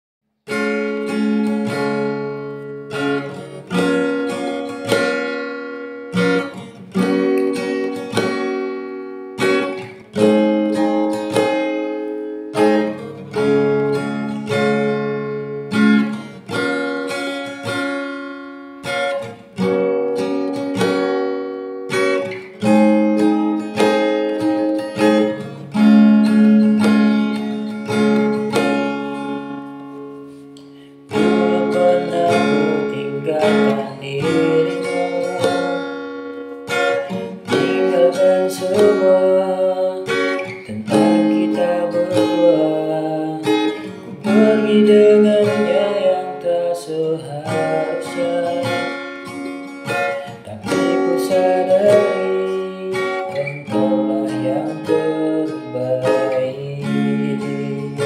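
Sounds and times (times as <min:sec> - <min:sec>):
acoustic guitar strumming chords: 0:00.4 - 0:58.0.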